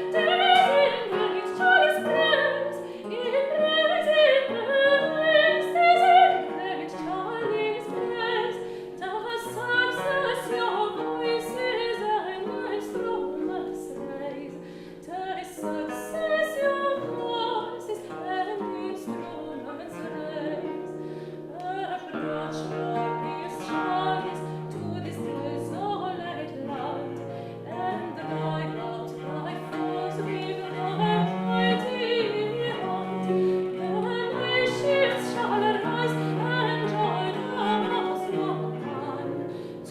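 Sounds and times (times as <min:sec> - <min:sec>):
baroque chamber music: 0:00.0 - 0:39.9
plucked harp: 0:00.0 - 0:39.9
violin: 0:00.0 - 0:39.9
woman singing: 0:00.0 - 0:39.9.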